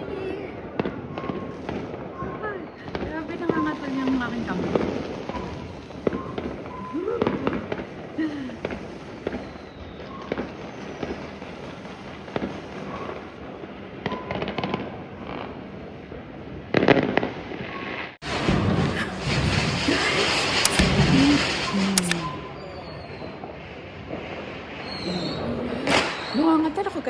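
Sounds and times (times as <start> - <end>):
distant fireworks bangs and crackles: 0.0 - 27.0.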